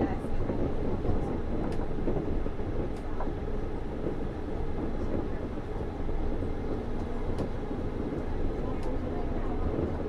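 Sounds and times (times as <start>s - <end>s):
train running gear rumble: 0.0s - 10.0s.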